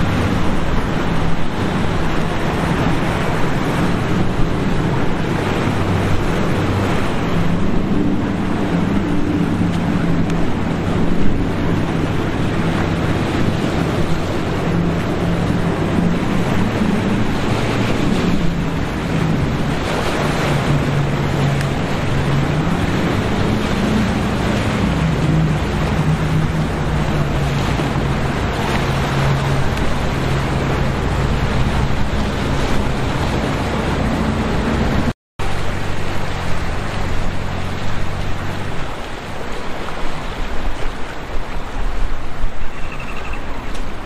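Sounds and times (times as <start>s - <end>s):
powerboat engine drone: 0.0s - 44.0s
surf: 0.0s - 44.0s
water noise: 0.0s - 44.0s
wind: 0.0s - 44.0s.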